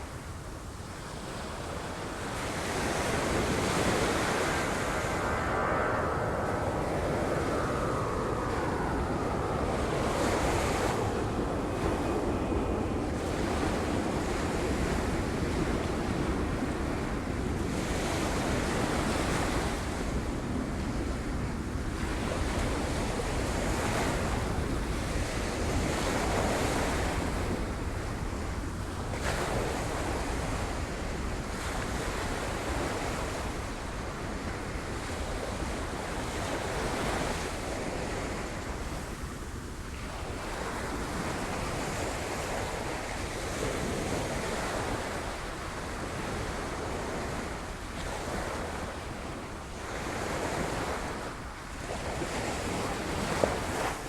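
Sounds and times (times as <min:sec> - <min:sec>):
wind rumbling on microphone: 0:00.0 - 0:54.0.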